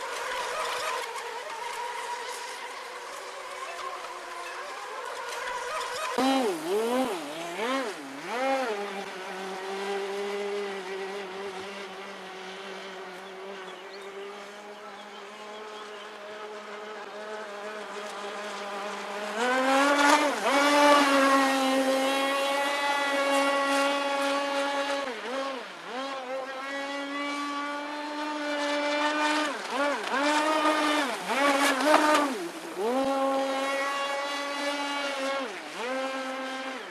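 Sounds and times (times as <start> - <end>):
model boat motor running: 0.0 - 36.9.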